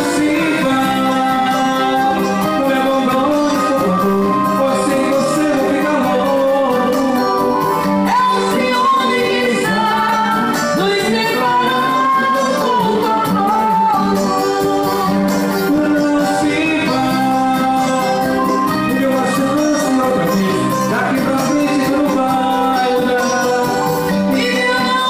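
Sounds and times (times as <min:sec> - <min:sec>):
live band playing: 0:00.0 - 0:25.0
person singing long notes: 0:00.0 - 0:25.0.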